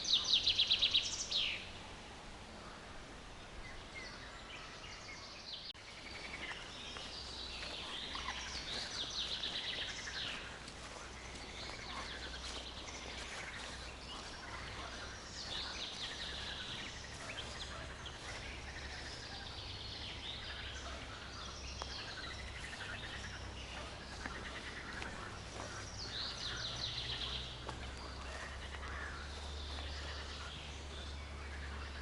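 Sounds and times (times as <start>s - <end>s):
songbirds singing: 0.0s - 32.0s
low steady rumble: 5.9s - 32.0s.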